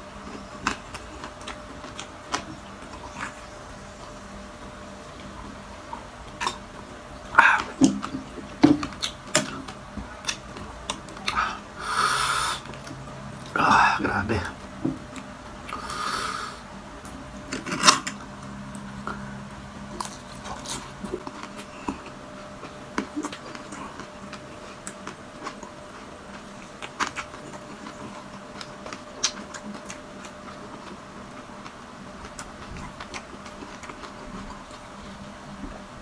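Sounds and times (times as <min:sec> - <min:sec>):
person chewing crunchy food: 0:00.0 - 0:35.8.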